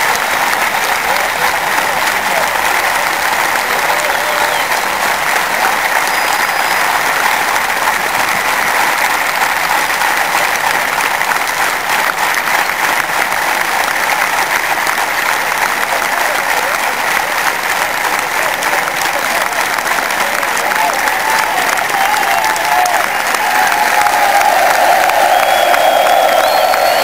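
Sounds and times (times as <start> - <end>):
stadium crowd applauding: 0.0 - 27.0.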